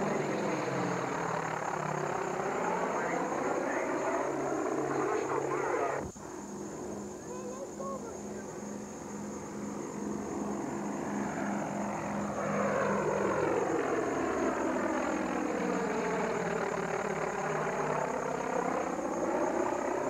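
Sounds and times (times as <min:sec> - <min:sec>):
phasing whoosh of aircraft: 0:00.0 - 0:07.2, 0:08.4 - 0:20.0
aircraft engine drone: 0:00.0 - 0:20.0.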